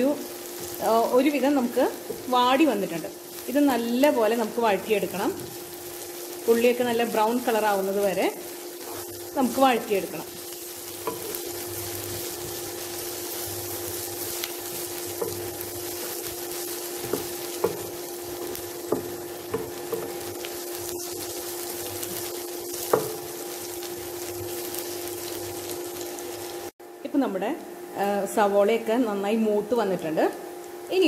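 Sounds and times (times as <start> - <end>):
onions sizzling in oil: 0.0 - 26.8.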